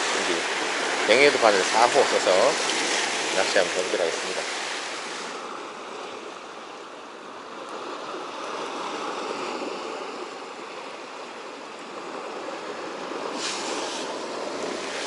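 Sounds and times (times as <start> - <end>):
sea waves washing over rocks: 0.0 - 15.0.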